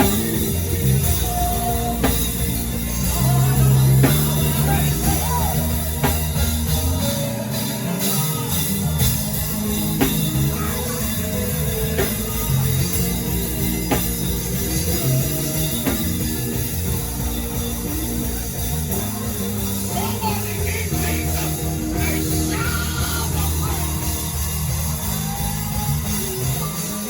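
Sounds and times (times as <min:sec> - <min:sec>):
live band playing: 0:00.0 - 0:27.0
low bass notes: 0:00.0 - 0:27.0.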